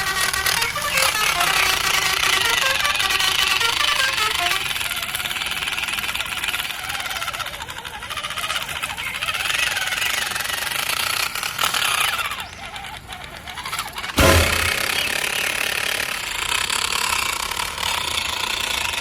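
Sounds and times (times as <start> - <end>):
model truck motors whining: 0.0 - 19.0.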